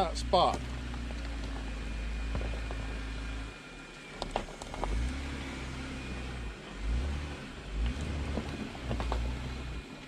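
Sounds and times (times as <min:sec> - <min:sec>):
car engine at low revs: 0:00.0 - 0:10.0.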